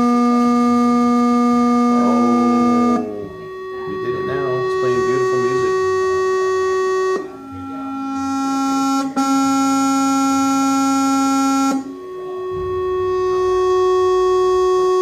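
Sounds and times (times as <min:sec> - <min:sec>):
buzzy electronic doorbell: 0:00.0 - 0:15.0.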